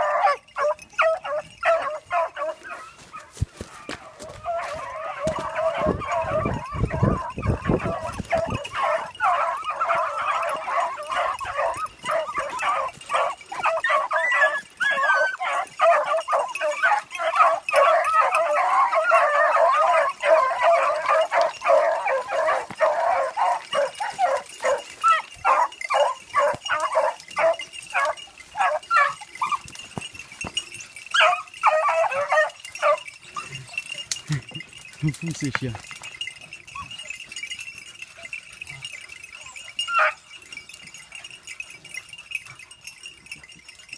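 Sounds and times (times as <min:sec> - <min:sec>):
dogs yelping: 0:00.0 - 0:35.1, 0:36.0 - 0:43.9
dogs baying: 0:00.0 - 0:43.9.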